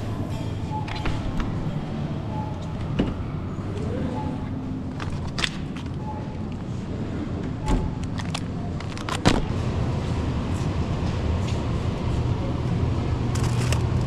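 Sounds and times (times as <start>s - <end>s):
truck road and engine rumble: 0.0s - 14.0s.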